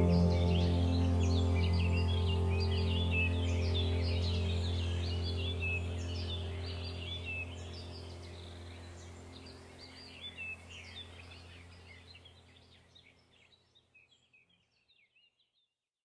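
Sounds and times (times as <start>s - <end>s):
low steady hum: 0.0s - 13.3s
birds chirping: 0.0s - 15.4s.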